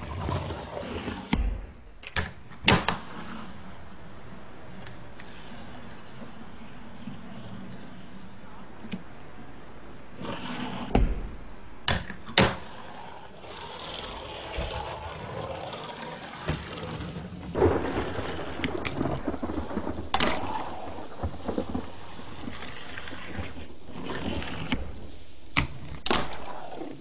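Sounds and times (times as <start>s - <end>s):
fingerboard wheels rumbling: 0.0s - 1.7s, 2.6s - 9.0s, 9.9s - 11.6s, 12.2s - 27.0s.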